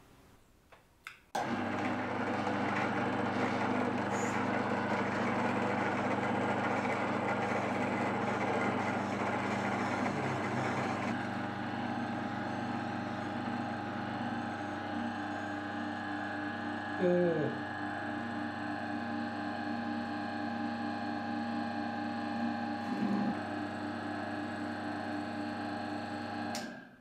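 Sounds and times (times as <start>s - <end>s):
food grinder motor humming: 1.4s - 26.9s.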